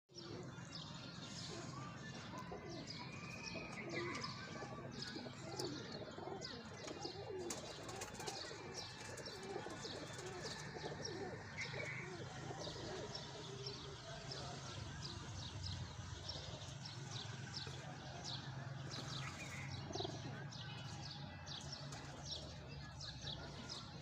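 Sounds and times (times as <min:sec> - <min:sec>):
pigeons cooing: 0:00.1 - 0:21.0
birds chirping: 0:00.1 - 0:24.0.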